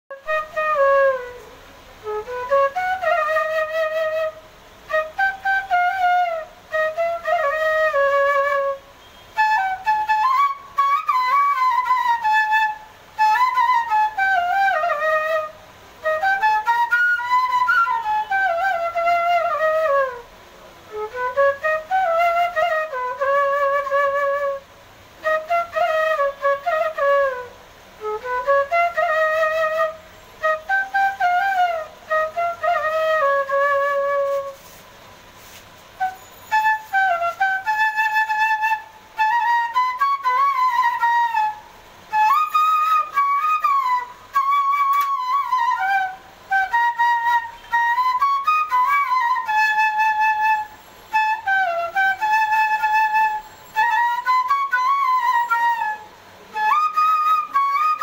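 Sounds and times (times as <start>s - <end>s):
bamboo flute playing folk tune: 0.1s - 58.0s.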